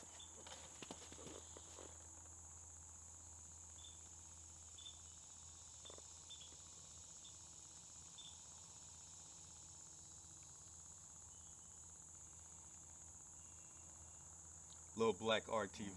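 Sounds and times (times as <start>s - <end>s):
high-pitched insect drone: 0.0s - 15.9s.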